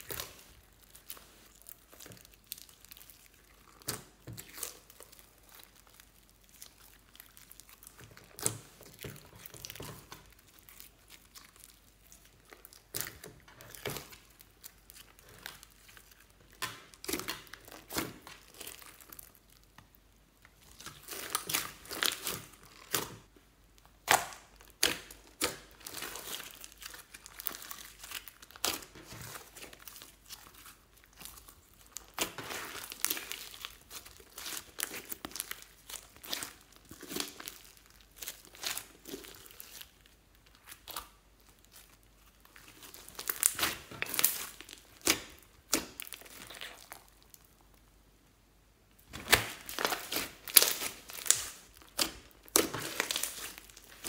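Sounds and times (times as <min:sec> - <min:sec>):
slime crackling and popping: 0:00.0 - 0:47.9, 0:49.0 - 0:54.0.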